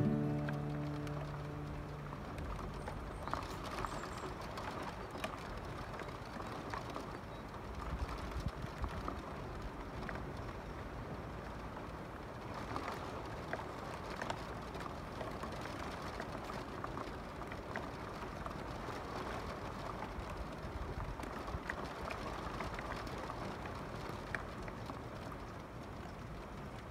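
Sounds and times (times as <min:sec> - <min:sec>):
single raindrops ticking: 0:00.0 - 0:26.9
steady rain hiss: 0:00.0 - 0:26.9.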